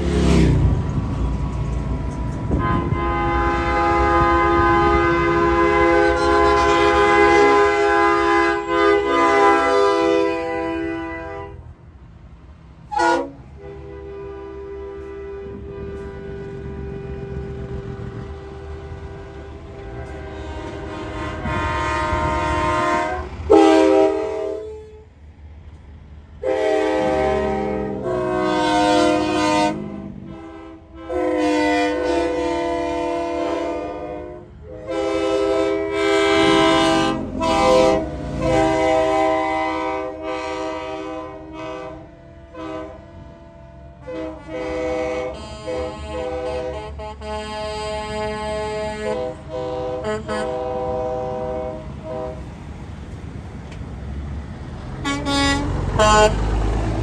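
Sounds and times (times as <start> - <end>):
diesel engines rumbling: 0.0 - 57.0
truck air horn blasts: 2.0 - 11.7, 12.8 - 25.2, 26.4 - 52.7, 55.0 - 57.0.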